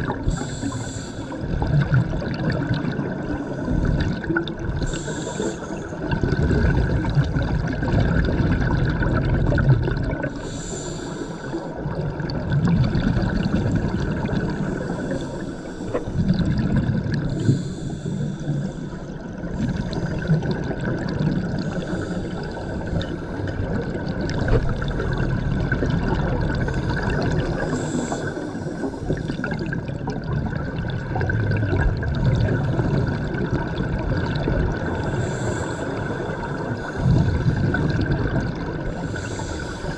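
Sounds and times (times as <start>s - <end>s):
regulator bubbles hissing and gurgling: 0.0s - 39.9s.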